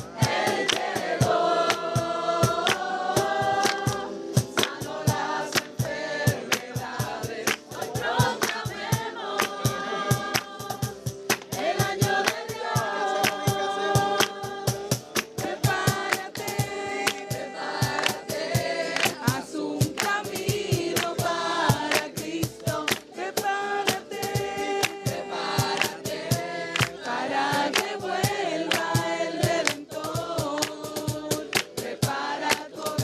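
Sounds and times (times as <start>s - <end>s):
gospel group singing: 0.0s - 33.0s
quick percussion beat: 0.0s - 33.0s.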